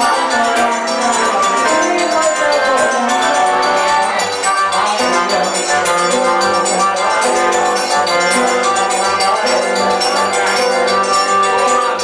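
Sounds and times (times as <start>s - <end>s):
accordion: 0.0s - 12.0s
live band playing dance tune: 0.0s - 12.0s.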